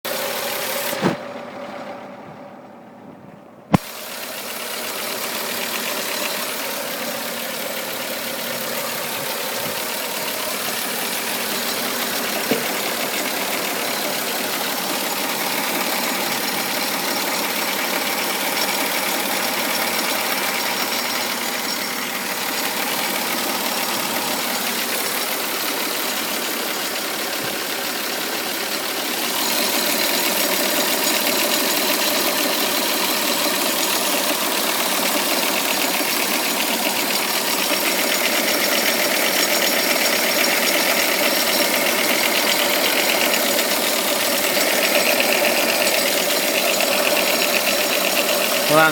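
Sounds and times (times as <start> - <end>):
engine knock: 0.0 - 2.4, 3.7 - 48.9
car engine idling: 0.0 - 48.9.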